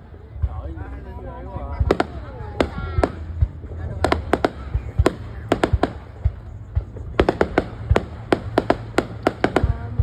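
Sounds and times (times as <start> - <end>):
fireworks cracking and popping: 1.7 - 10.0.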